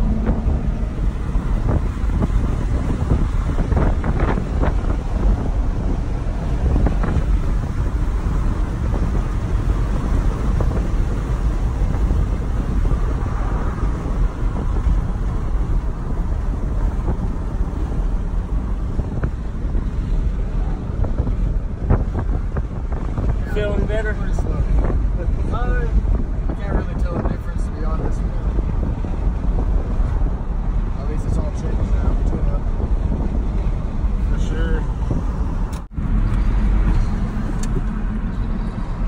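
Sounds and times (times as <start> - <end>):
pickup cab rumble at highway speed: 0.0 - 39.0.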